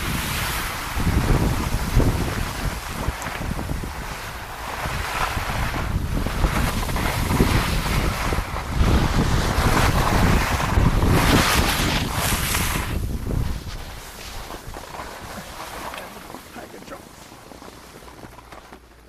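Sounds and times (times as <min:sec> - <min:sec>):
wind buffeting microphone: 0:00.0 - 0:17.4.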